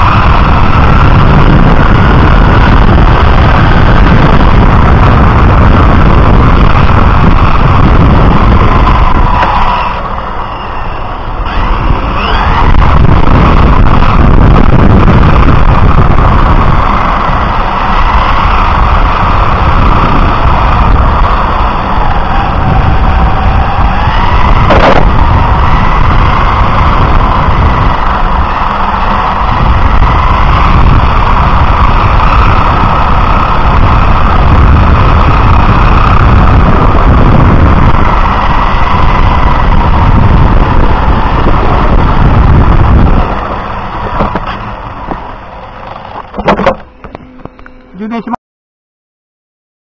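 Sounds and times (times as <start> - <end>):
wind on microphone: 0.0 - 47.9
electric motor and gear whine: 0.0 - 48.4
road vibration rumble: 0.0 - 48.4.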